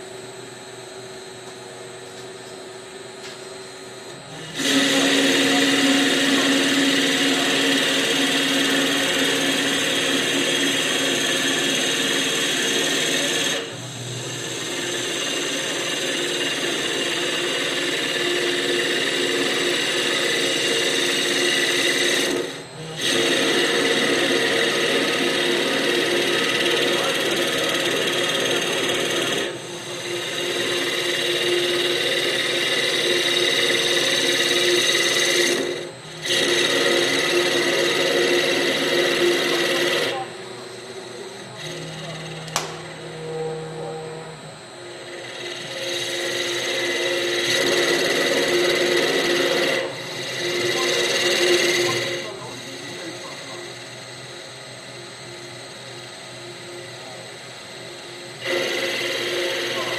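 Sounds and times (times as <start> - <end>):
machine whine: 0.0 - 59.9
cutter shaving wood: 4.1 - 43.4, 44.6 - 56.2, 56.8 - 59.9.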